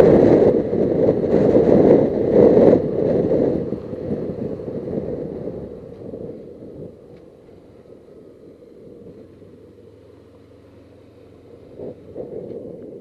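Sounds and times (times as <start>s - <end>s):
motorcycle engine at low revs: 0.0s - 13.0s
wind rumble in helmet: 0.0s - 13.0s.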